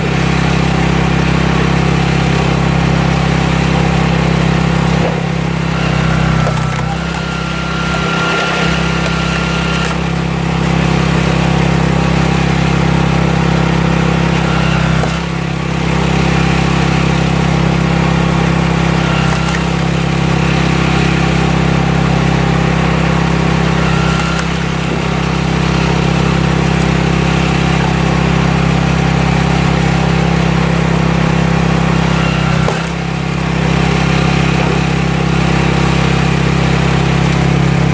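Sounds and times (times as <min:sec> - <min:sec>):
small engine running: 0:00.0 - 0:37.9.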